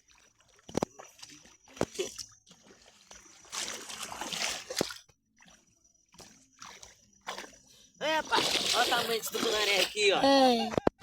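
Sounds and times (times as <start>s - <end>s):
water splashing: 0.0s - 10.6s.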